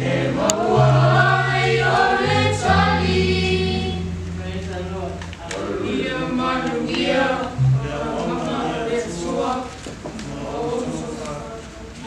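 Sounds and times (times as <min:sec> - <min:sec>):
group of voices singing: 0:00.0 - 0:11.5.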